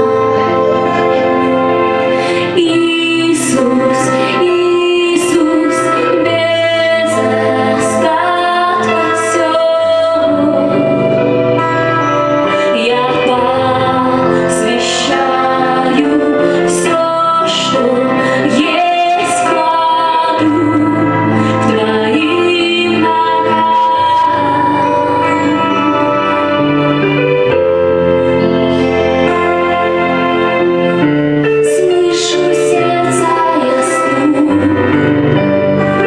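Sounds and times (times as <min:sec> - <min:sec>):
instrumental accompaniment: 0:00.0 - 0:36.0
woman singing worship song: 0:02.2 - 0:27.2, 0:31.6 - 0:36.0.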